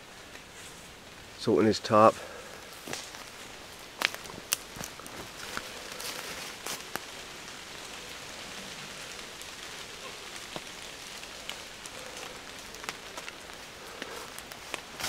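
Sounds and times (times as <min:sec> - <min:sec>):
heavy rain on leaves: 0:00.0 - 0:15.0.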